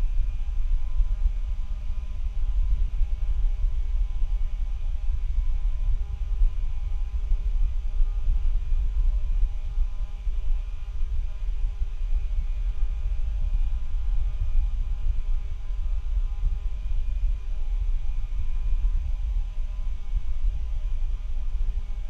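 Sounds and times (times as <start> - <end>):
electrical hum and whine: 0.0 - 22.0
fluttering low microphone rumble: 0.0 - 22.0.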